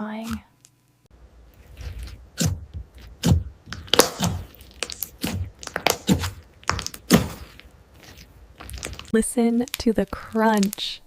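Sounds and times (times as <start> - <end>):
foam squishing: 1.4 - 11.0.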